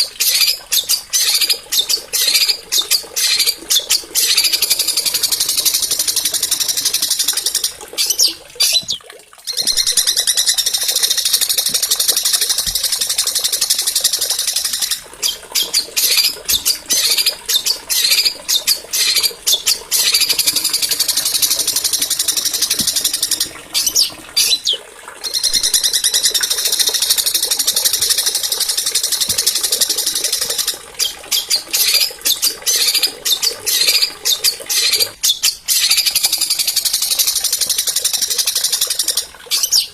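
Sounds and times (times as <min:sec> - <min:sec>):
songbirds trilling and chattering: 0:00.0 - 0:37.4.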